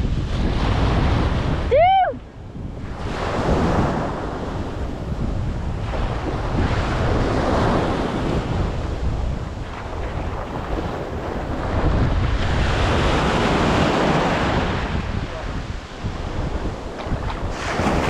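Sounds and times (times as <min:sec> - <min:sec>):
wind buffeting microphone: 0:00.0 - 0:18.0
water washing against boat: 0:02.9 - 0:18.0.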